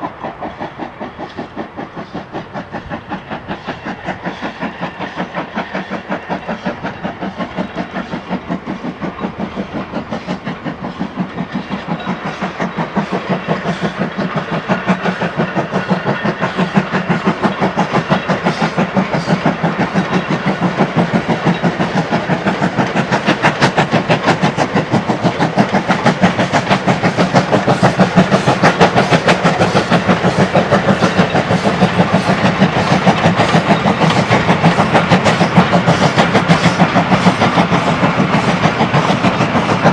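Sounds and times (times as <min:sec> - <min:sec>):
steam locomotive chuffing: 0:00.0 - 0:39.9.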